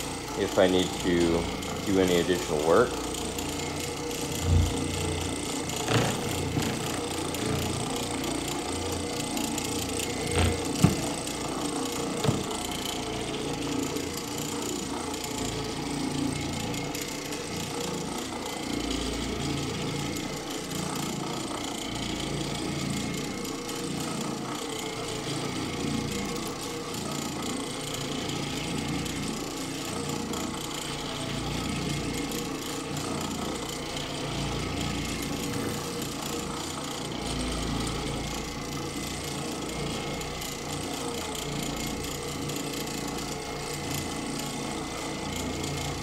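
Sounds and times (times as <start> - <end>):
floor machine scrubbing carpet: 0.0 - 46.0.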